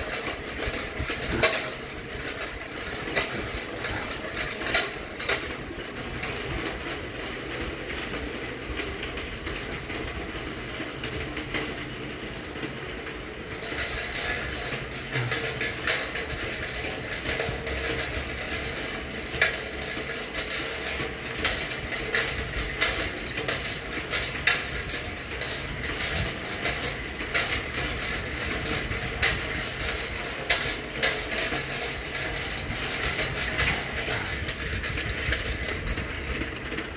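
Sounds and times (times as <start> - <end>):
bicycle rattling and clicking: 0.0 - 36.9.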